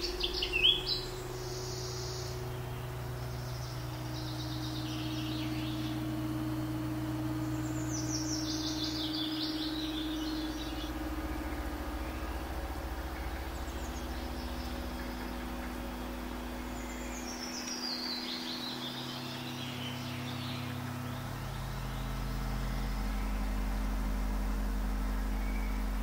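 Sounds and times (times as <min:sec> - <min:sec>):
birds chirping: 0:00.0 - 0:26.0
low held drone notes: 0:00.0 - 0:26.0.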